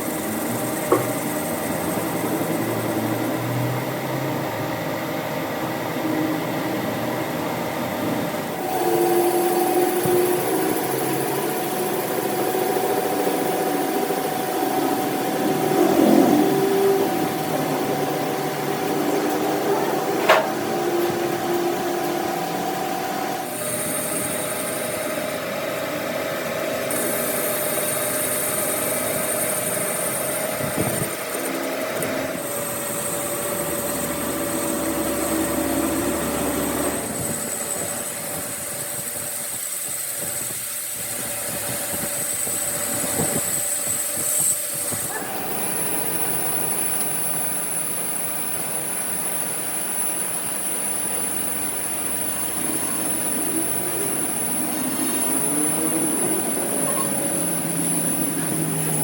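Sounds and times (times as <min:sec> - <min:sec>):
machine high-pitched whine: 0:00.0 - 0:59.0.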